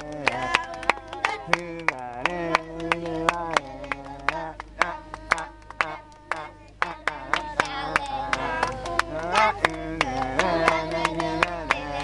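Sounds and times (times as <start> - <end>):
children singing together: 0.0 - 12.0
hand clapping: 0.0 - 12.0.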